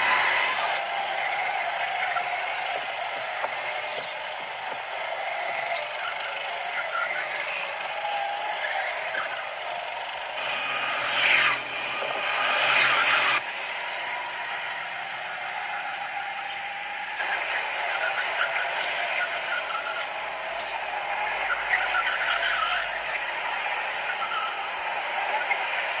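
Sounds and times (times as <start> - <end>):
go-kart engines: 0.0 - 26.0.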